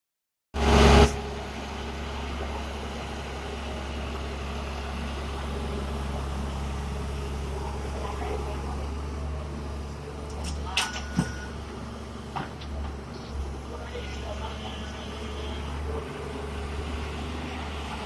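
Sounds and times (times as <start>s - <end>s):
heavy diesel engine droning: 0.6s - 18.0s.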